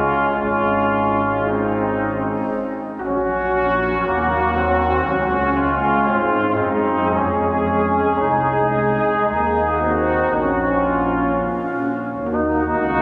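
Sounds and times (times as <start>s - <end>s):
brass quartet playing chords: 0.0s - 13.0s.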